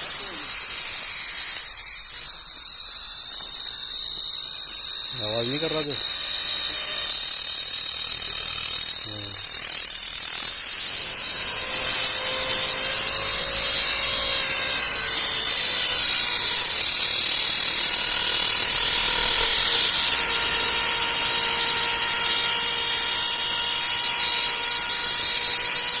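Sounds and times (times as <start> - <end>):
insects buzzing chorus: 0.0 - 26.0.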